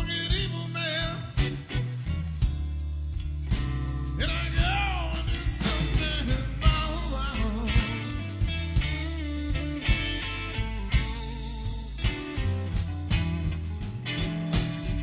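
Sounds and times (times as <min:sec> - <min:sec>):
bending electric guitar lead: 0:00.0 - 0:15.0
electric blues band playing: 0:00.0 - 0:15.0.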